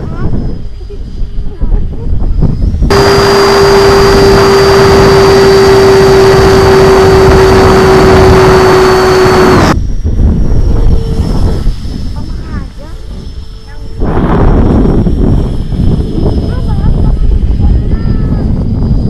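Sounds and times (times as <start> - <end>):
ducted fan whine: 0.0 - 19.0
rushing wind noise: 0.0 - 19.0.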